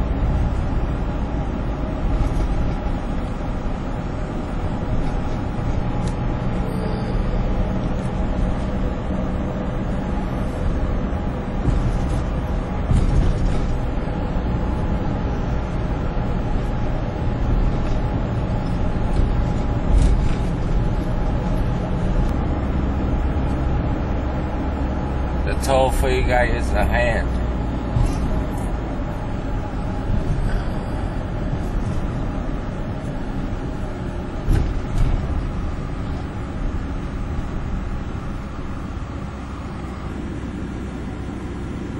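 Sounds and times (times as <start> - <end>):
highway traffic drone: 0.0 - 41.9.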